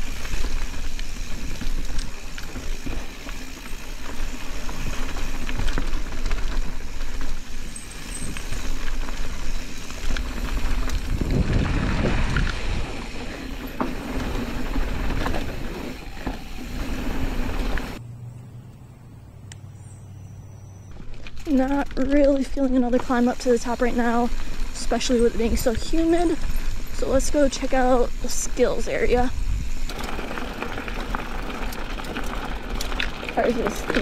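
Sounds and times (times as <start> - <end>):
bike clicking and rattling: 0.0 - 18.0, 20.9 - 34.0
bike tyres rumbling on dirt: 0.0 - 18.0, 20.9 - 34.0.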